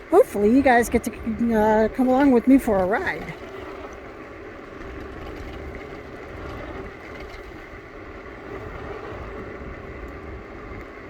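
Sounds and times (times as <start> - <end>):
electric scooter rumble and whine: 0.0 - 11.0.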